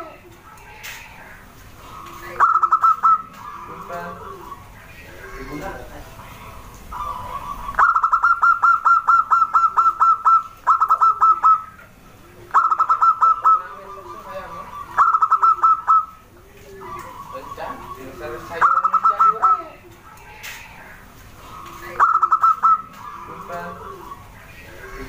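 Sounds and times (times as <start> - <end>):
dove cooing rapidly: 0.0 - 25.0.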